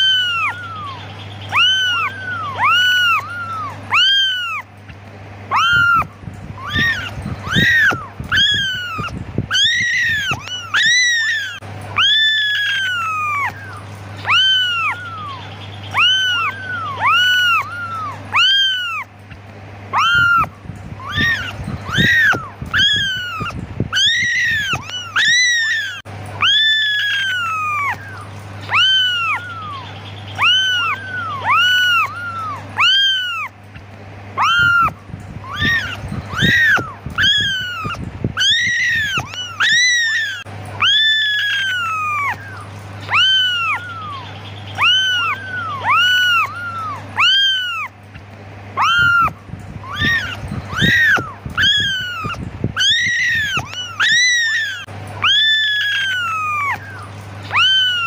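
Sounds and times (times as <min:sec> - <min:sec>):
kittens meowing: 0:00.0 - 0:58.0.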